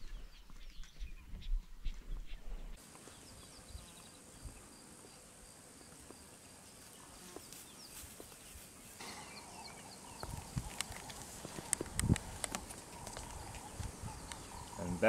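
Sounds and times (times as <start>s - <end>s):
steady insect hiss: 2.8s - 15.0s.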